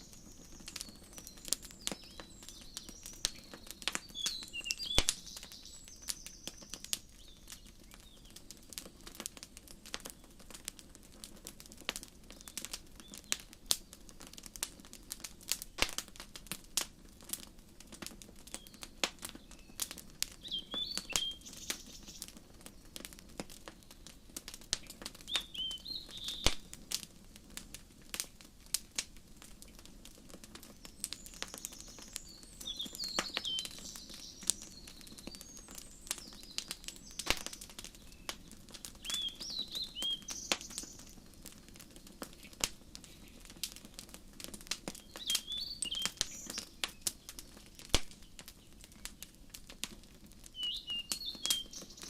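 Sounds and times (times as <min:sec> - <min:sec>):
small birds chirping: 0:00.0 - 0:16.5, 0:17.2 - 0:27.0, 0:28.1 - 0:52.0
wood fire crackling and popping: 0:00.0 - 0:52.0.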